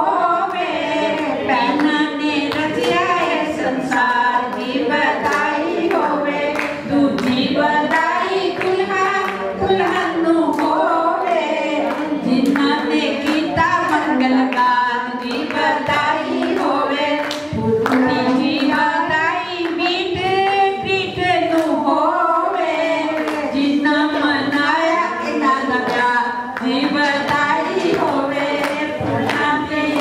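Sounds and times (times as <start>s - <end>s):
group singing unaccompanied: 0.0s - 30.0s.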